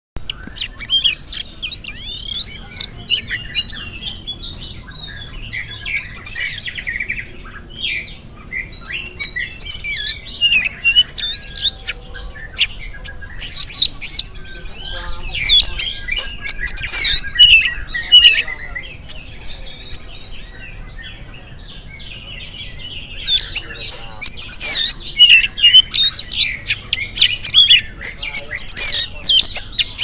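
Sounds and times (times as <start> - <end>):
bird singing whistles and chatter: 0.2 - 30.0.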